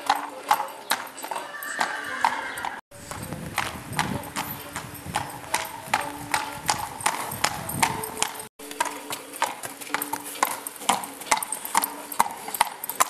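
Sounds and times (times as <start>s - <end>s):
hooves clip-clopping on concrete: 0.0s - 13.0s.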